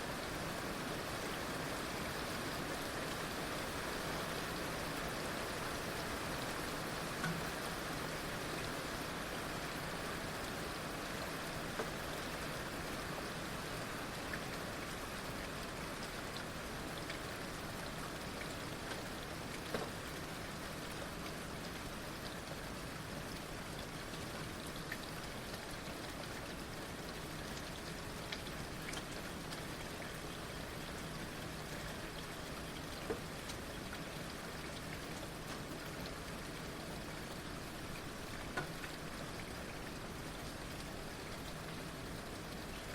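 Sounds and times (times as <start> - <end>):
raindrops ticking on surfaces: 0.1 - 42.9.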